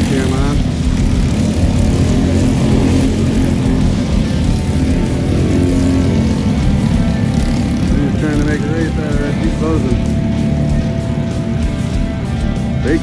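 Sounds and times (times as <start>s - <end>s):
racing kart engine: 0.0s - 13.0s.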